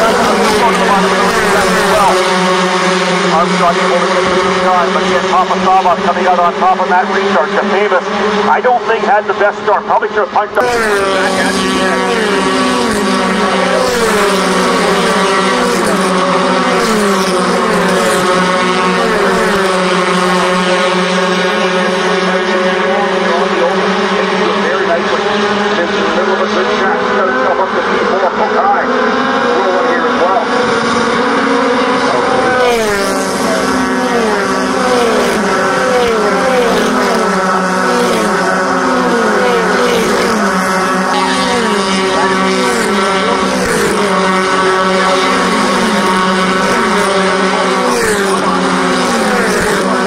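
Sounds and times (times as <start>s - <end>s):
race cars passing: 0.0s - 50.0s
steady engine drone: 0.0s - 50.0s.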